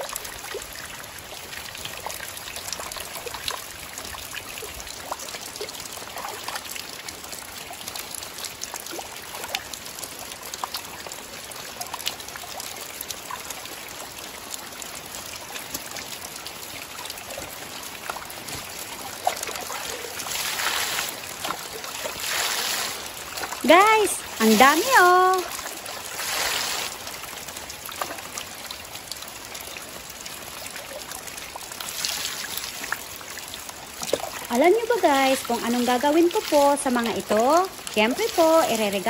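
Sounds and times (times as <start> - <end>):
water pouring: 0.0 - 39.0
water trickling and dripping: 0.0 - 39.0.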